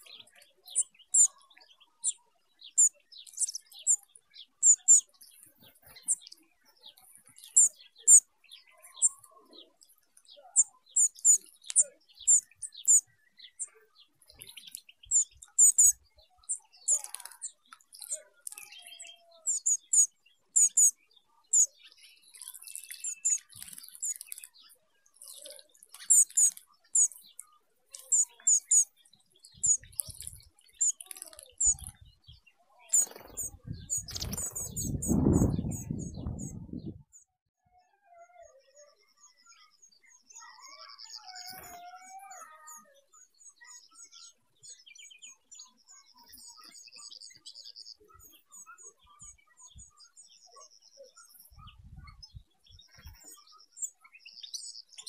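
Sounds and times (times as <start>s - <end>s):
finches chirping: 0.0s - 37.3s, 38.8s - 55.0s.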